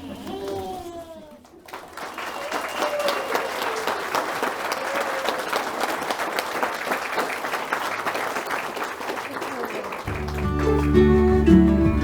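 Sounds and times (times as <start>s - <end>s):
crowd clapping: 1.4s - 12.0s.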